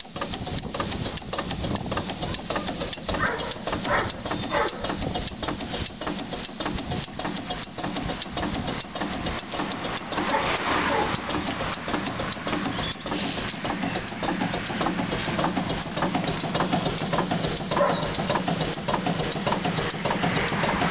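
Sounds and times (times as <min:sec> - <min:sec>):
steam engine rhythmic clatter: 0:00.0 - 0:20.9.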